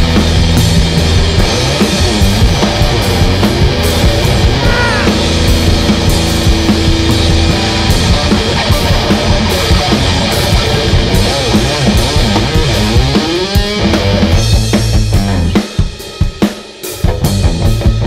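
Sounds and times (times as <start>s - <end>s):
distorted electric guitar: 0.0s - 18.0s
drum kit: 0.0s - 18.0s.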